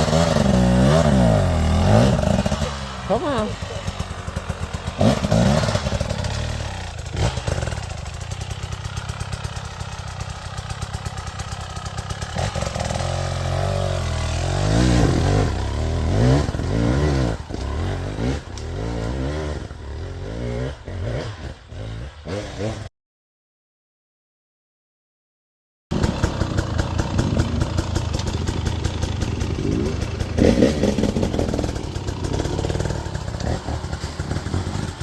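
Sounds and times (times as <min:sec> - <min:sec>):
dirt bike engine revving: 0:00.0 - 0:22.9, 0:25.9 - 0:35.0.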